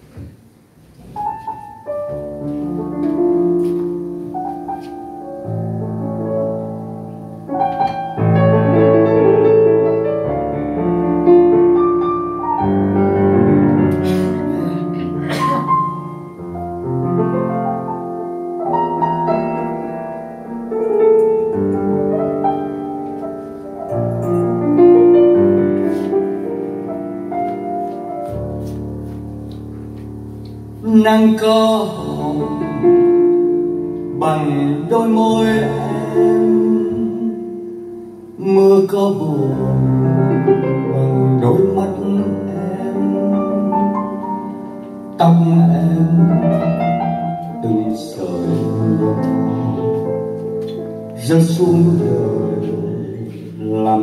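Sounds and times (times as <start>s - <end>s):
piano playing slow chords and melody: 0.0s - 54.0s.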